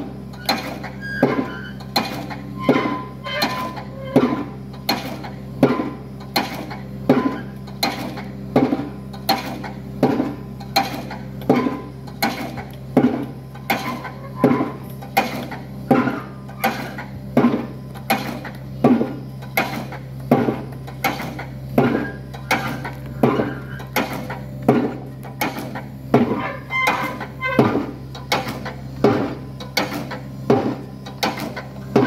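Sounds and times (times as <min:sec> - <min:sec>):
low machine drone: 0:00.0 - 0:32.0.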